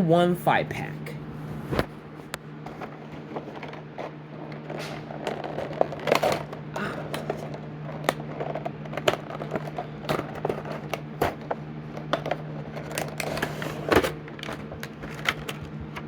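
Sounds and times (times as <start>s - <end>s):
steady low hum: 0.0s - 16.0s
packaging crackling and scraping: 2.6s - 16.0s.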